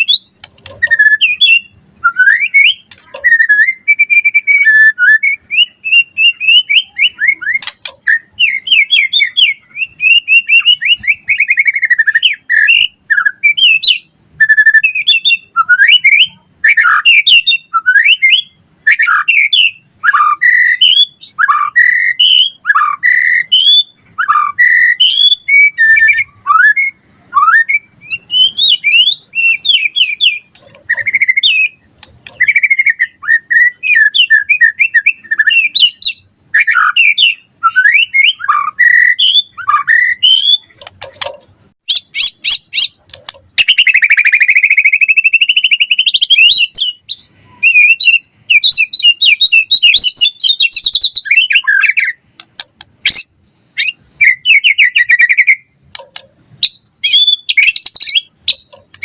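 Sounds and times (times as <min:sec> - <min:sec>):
bird singing whistled phrases: 0:00.0 - 0:40.8, 0:41.9 - 0:43.0, 0:43.6 - 0:52.2, 0:53.0 - 0:55.7, 0:56.6 - 0:59.0.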